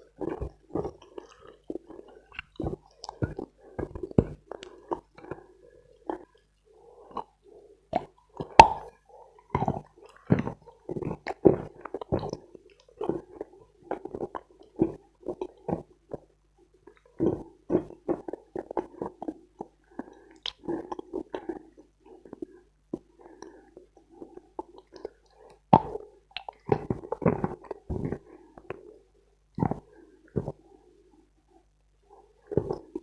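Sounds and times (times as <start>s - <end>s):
wet mouth sounds: 0.1s - 6.4s, 7.1s - 8.9s, 9.6s - 16.3s, 16.9s - 28.8s, 29.6s - 30.6s, 32.4s - 33.0s.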